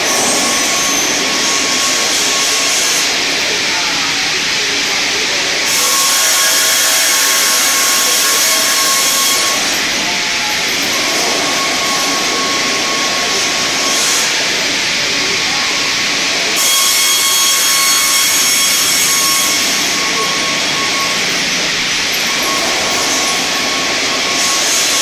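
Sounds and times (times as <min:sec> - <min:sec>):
saw blades cutting wood: 0:00.0 - 0:25.0
saw blades whining: 0:00.0 - 0:25.0.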